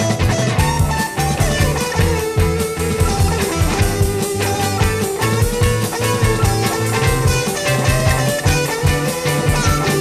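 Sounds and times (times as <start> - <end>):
bass line: 0.0 - 10.0
drums: 0.0 - 10.0
electric guitar: 0.0 - 10.0.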